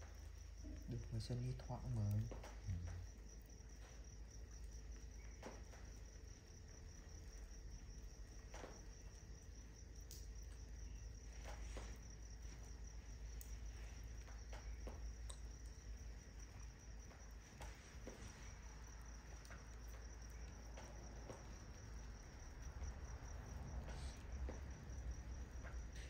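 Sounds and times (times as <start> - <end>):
crickets trilling: 0.0 - 26.0
wood fire crackling: 0.0 - 26.0.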